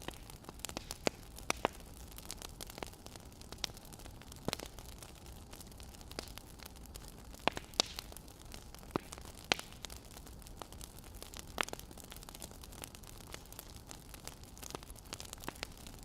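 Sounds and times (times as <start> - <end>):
wood fire popping: 0.0 - 16.0.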